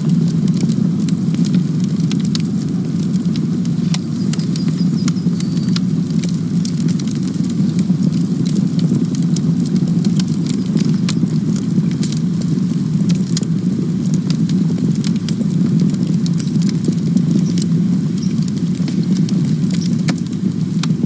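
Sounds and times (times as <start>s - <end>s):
burning wood crackling and popping: 0.0s - 21.0s
campfire flames rumbling: 0.0s - 21.0s.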